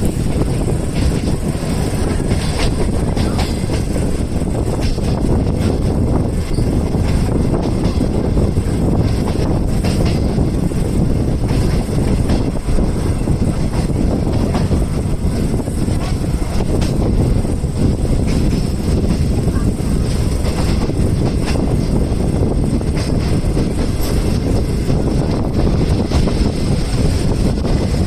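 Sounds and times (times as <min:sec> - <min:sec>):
train rumbling from inside coach: 0:00.0 - 0:28.0.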